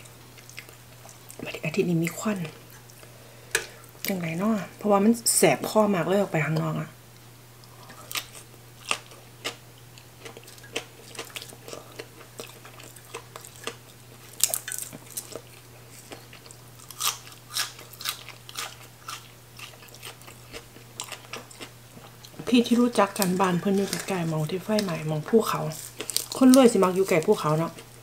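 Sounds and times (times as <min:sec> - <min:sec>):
crunchy chewing: 0:00.3 - 0:03.1, 0:07.6 - 0:25.1, 0:25.7 - 0:28.0.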